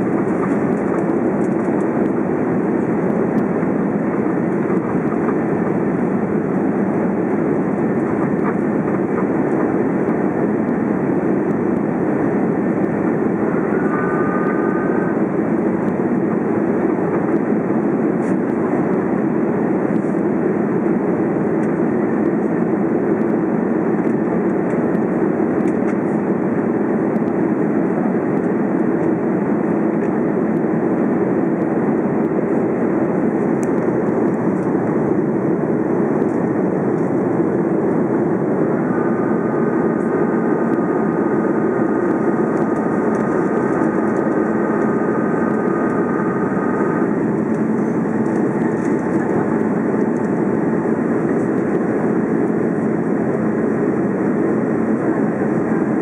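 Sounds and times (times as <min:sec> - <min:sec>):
aircraft cabin engine noise: 0:00.0 - 0:56.0.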